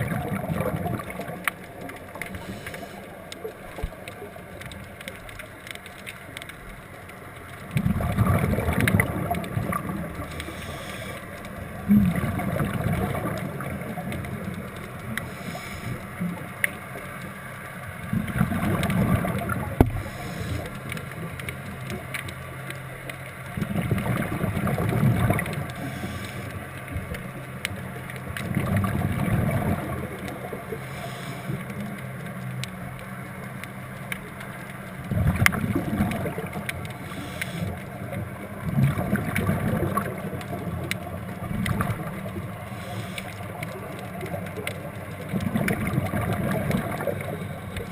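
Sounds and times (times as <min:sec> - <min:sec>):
exhaled bubbles gurgling underwater: 0:00.0 - 0:47.9
faint clicks: 0:00.1 - 0:47.9.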